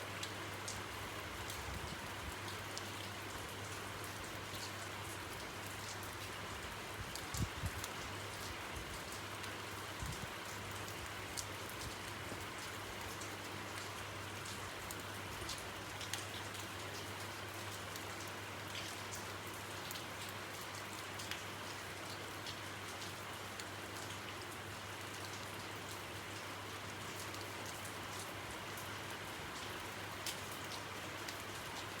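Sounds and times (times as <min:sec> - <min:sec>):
hiss of falling rain: 0:00.0 - 0:32.0.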